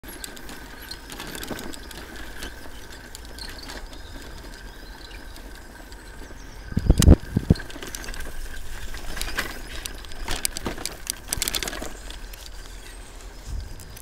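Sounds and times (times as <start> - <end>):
bicycle frame rattling: 0.0 - 14.0
bicycle tyres rumbling: 0.0 - 14.0.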